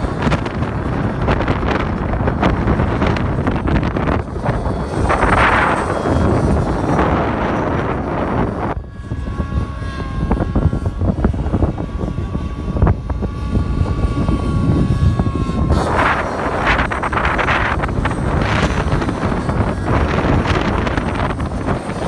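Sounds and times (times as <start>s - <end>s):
model airplane motor whine: 0.0s - 22.0s
wind buffeting microphone: 0.0s - 22.0s.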